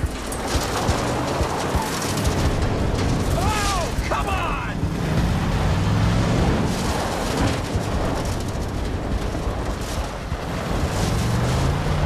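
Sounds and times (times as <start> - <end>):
tyres skidding on gravel: 0.0 - 12.0.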